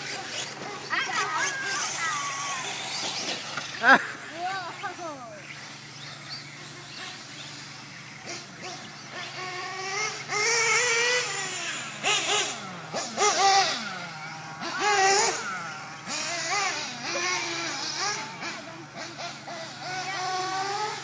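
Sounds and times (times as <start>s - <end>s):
small engines revving and whining: 0.0s - 21.0s.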